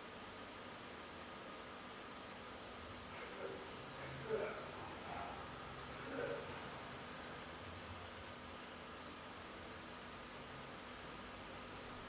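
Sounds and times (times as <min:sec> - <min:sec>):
faint hum: 0:00.0 - 0:12.0
recording hiss: 0:00.0 - 0:12.0.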